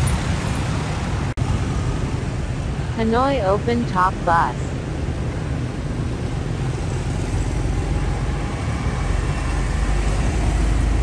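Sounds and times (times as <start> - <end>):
bus engine rumble: 0.0 - 11.0
motorbikes: 0.0 - 11.0
street traffic: 0.0 - 11.0.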